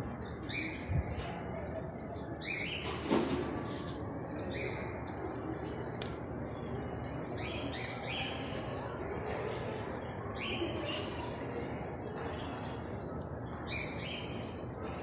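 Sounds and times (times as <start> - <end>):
background hubbub: 0.0 - 15.0.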